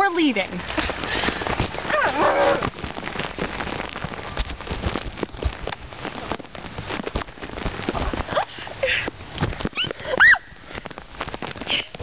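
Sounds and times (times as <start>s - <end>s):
water pattering: 0.0s - 12.0s.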